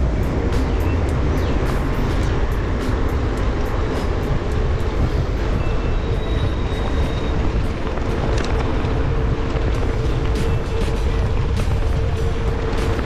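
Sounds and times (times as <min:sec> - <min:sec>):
city traffic: 0:00.0 - 0:13.0
wind on microphone: 0:00.0 - 0:13.0.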